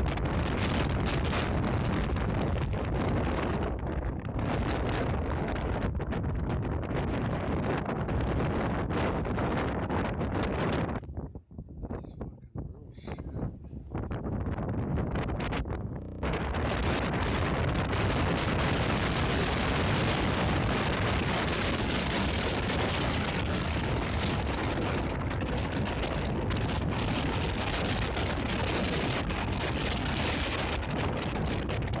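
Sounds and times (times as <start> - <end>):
blizzard wind buffeting microphone: 0.0 - 32.0.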